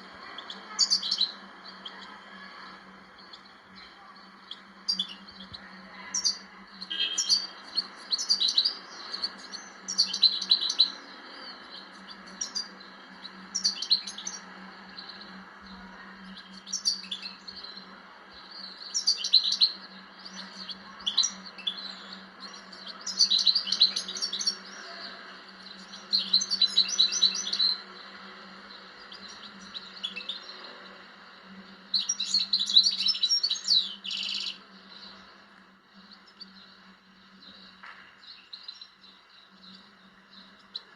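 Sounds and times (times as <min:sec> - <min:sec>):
goldfinch twittering song: 0:00.0 - 0:40.9.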